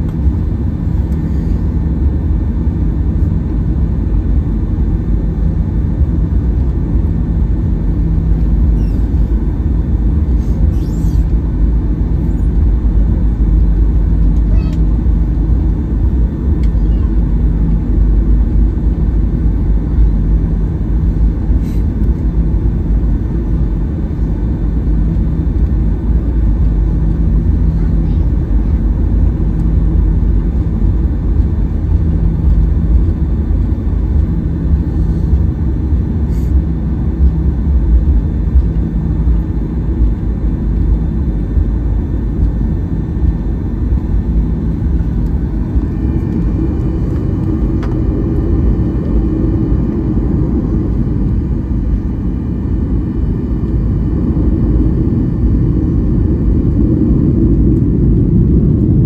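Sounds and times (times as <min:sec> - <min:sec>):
aircraft engines rumbling: 0:00.0 - 0:59.0.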